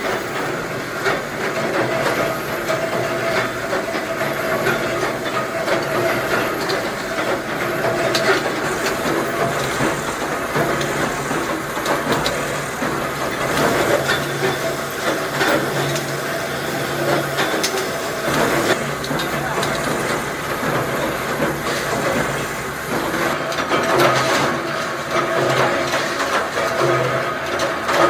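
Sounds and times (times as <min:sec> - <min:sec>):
machine clicks and clacks: 0:00.0 - 0:28.0
machinery running: 0:00.0 - 0:28.0.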